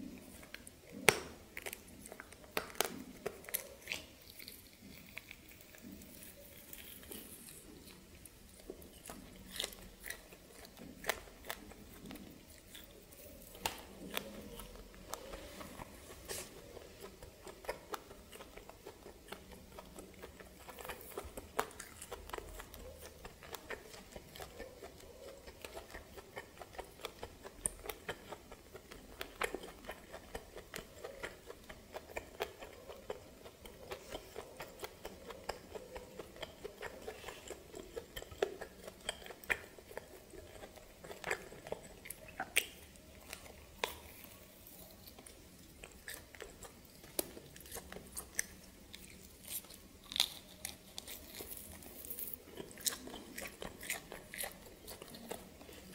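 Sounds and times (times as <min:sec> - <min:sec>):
person crunching food: 0:00.0 - 0:55.9
wet chewing clicks: 0:00.0 - 0:55.9.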